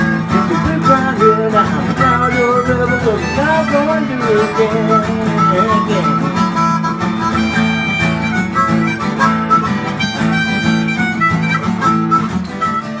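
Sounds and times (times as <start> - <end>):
harmonica melody: 0.0 - 13.0
strummed acoustic guitar: 0.0 - 13.0.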